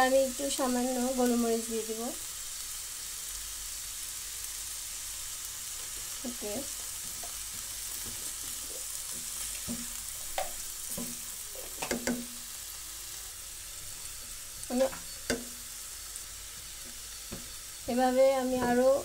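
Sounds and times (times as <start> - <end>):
vegetables sizzling in pan: 0.0 - 19.0.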